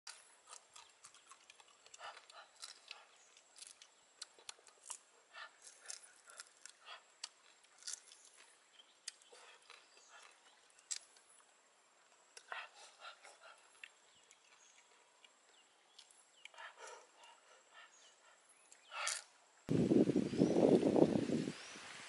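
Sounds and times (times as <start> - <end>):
chewing: 0.1 - 19.4.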